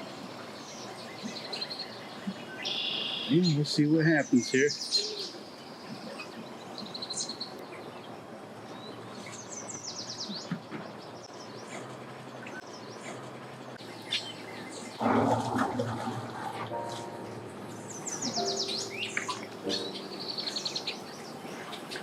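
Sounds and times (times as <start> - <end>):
small birds chirping: 0.0 - 15.1, 16.8 - 22.0
low background hum: 0.0 - 22.0
rushing noise with low drone: 0.0 - 22.0.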